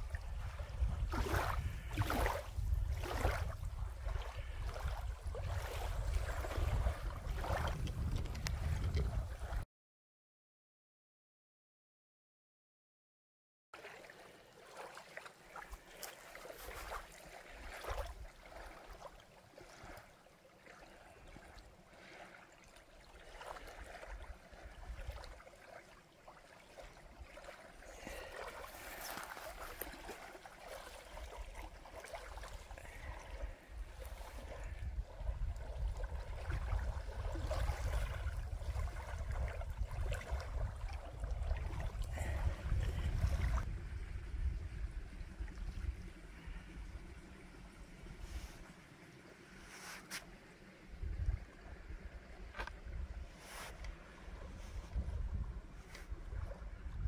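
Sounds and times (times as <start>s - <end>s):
small waves lapping on sand: 0.0s - 9.6s, 13.8s - 57.0s.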